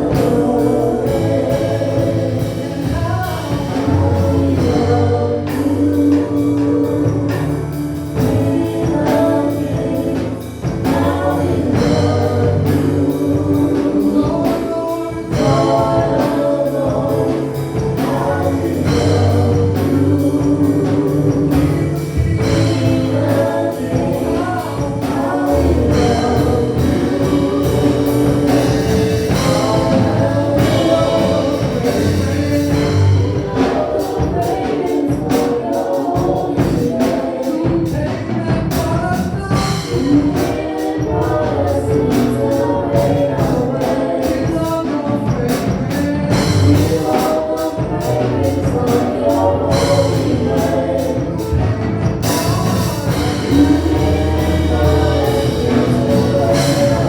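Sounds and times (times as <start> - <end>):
bass: 0.0 - 57.0
choir singing gospel music: 0.0 - 57.0
percussion beat: 0.0 - 57.0.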